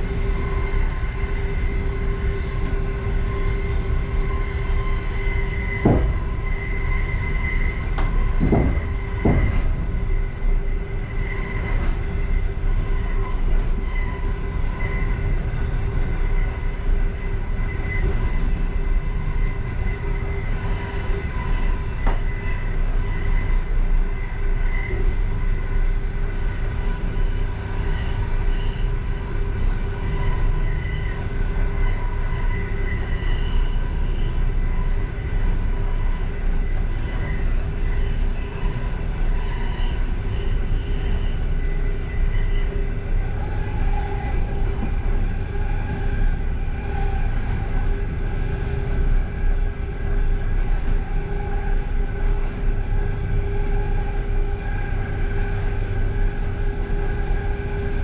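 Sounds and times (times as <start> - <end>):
steady whining tones: 0.0 - 58.0
train wheels rumbling on rail: 0.0 - 58.0.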